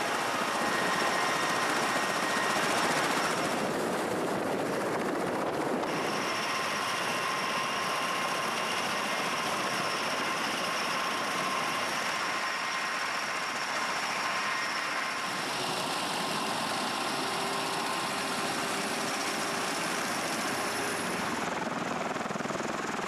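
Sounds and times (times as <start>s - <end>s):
high turbine whine: 0.0s - 23.0s
tiltrotor aircraft rotor and engine noise: 0.0s - 23.0s.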